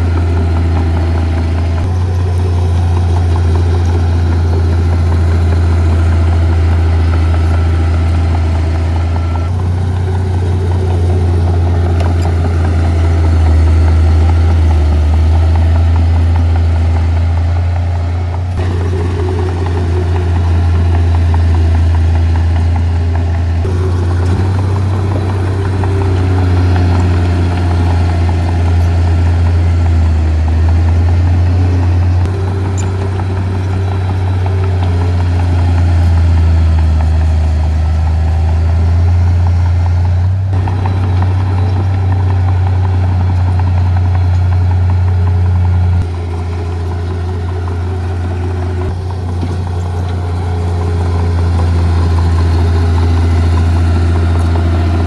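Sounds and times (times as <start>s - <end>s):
heavy diesel machinery droning: 0.0s - 55.0s.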